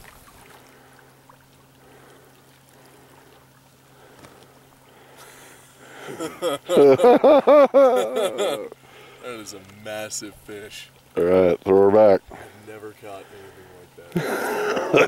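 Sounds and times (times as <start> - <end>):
faint low hum: 0.0 - 15.0
water and wind noise: 0.0 - 15.0.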